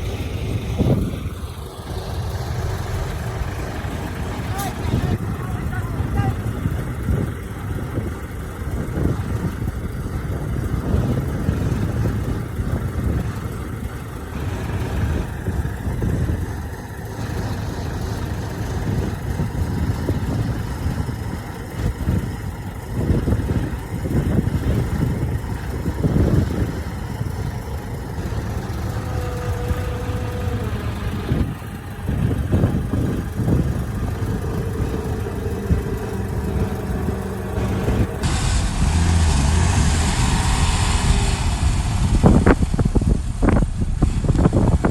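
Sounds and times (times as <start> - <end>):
heavy diesel machinery engines: 0.0 - 44.9.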